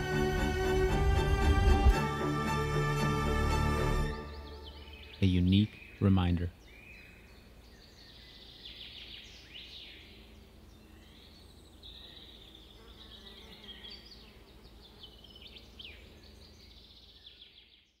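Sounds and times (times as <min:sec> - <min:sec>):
low outdoor background: 0:00.0 - 0:18.0
birds chirping and trilling: 0:03.0 - 0:18.0.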